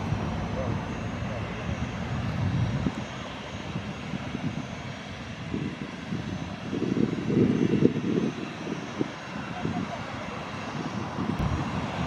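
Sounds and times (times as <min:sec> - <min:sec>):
jet engines rumble and hiss: 0:00.0 - 0:12.0.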